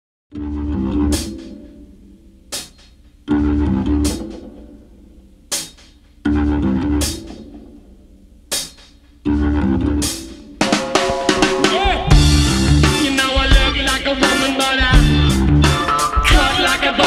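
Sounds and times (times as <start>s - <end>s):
blues organ and bass riff: 0.3s - 17.0s.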